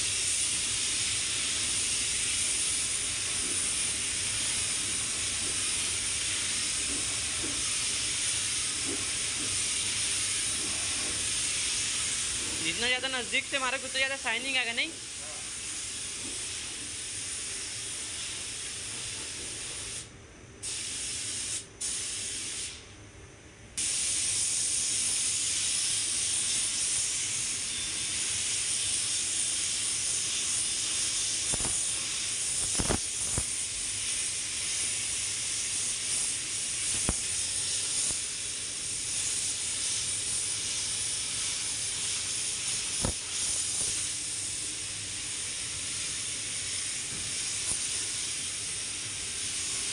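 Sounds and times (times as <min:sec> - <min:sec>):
paint spray gun hissing: 0:00.0 - 0:22.8, 0:23.8 - 0:49.9.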